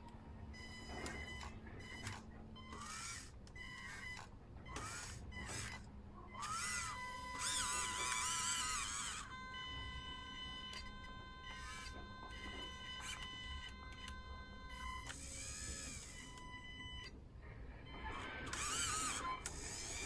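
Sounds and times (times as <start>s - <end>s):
small electric motors whining: 0.5s - 17.2s, 17.8s - 20.0s.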